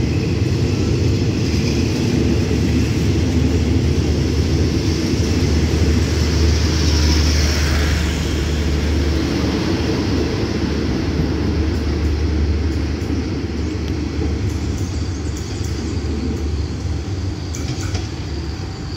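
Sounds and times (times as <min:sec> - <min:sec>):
train coaches rumbling past: 0:00.0 - 0:18.9.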